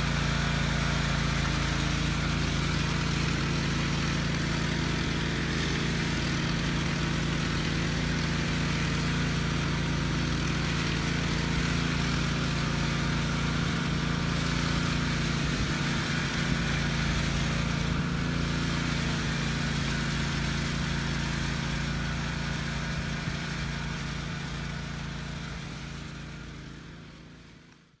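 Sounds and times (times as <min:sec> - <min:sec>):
power trowel engine running: 0:00.0 - 0:28.0.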